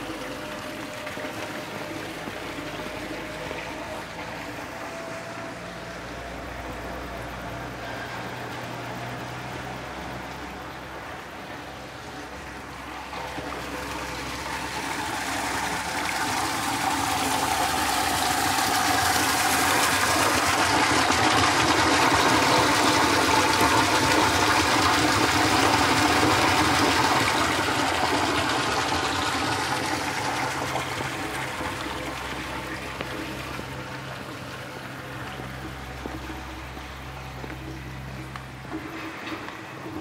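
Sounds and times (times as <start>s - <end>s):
fountain water splashing: 0.0s - 40.0s.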